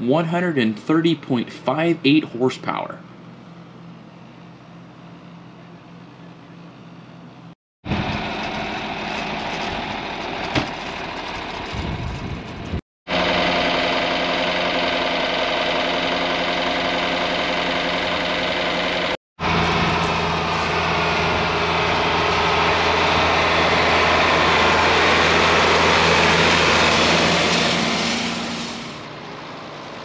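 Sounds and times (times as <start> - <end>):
diesel tractor engine running: 3.0 - 30.0.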